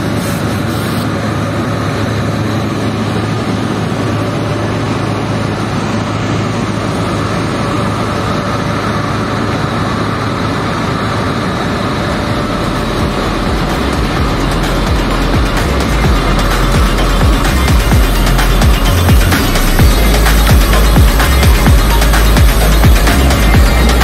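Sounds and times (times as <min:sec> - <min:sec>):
workshop machinery drone: 0:00.0 - 0:24.0.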